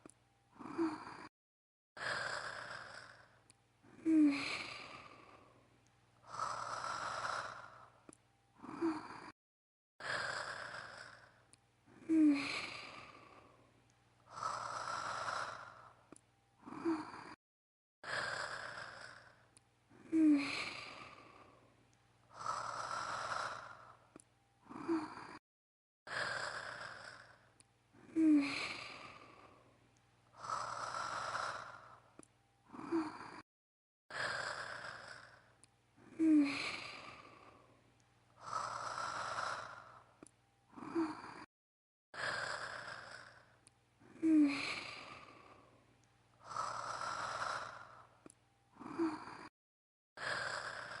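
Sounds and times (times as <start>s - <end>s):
woman snoring: 0.5s - 1.3s, 2.0s - 5.6s, 6.2s - 9.4s, 10.0s - 17.4s, 18.0s - 25.4s, 26.1s - 33.5s, 34.1s - 37.8s, 38.4s - 41.5s, 42.2s - 45.8s, 46.4s - 49.6s, 50.2s - 51.0s.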